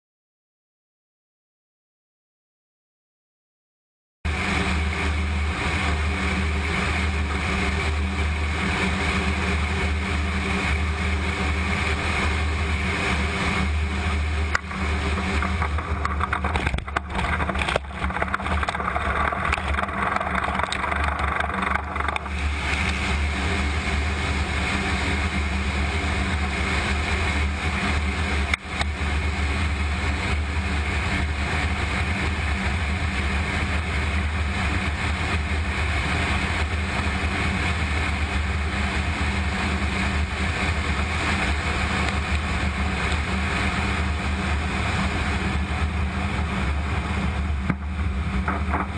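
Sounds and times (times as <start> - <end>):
jet engines droning: 4.3 - 48.9.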